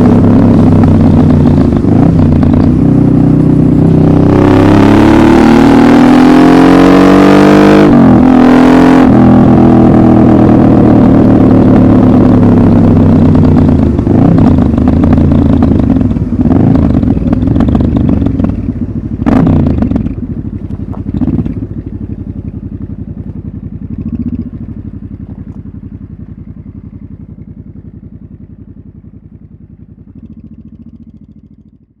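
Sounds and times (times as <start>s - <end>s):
loud motorcycle engine: 0.0s - 32.0s.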